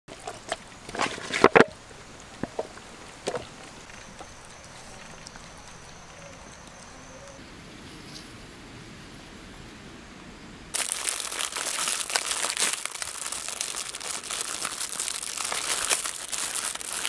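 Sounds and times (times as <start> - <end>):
faint outdoor background: 0.1 - 17.0.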